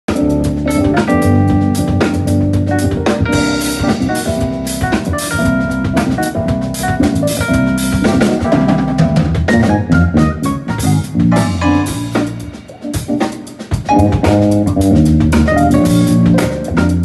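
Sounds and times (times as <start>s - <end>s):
drum kit with cymbals: 0.1s - 17.0s
electric bass notes: 0.1s - 17.0s
electronic keyboard chords: 0.1s - 17.0s.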